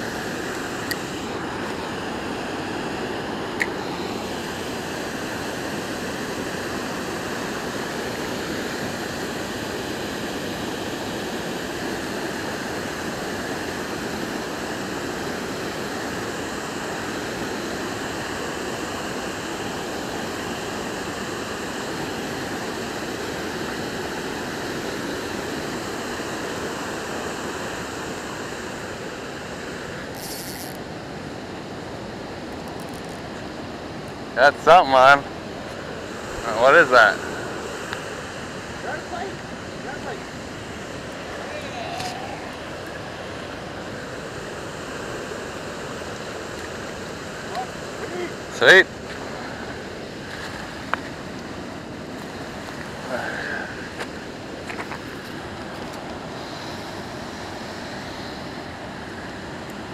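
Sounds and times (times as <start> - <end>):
river water pouring over weir: 0.0 - 59.9.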